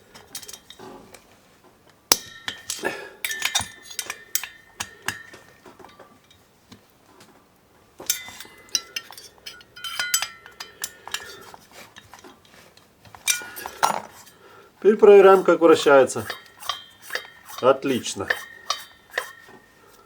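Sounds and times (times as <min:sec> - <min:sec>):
metal tools clinking on metal: 0:00.0 - 0:00.9, 0:02.1 - 0:06.4, 0:08.0 - 0:20.0.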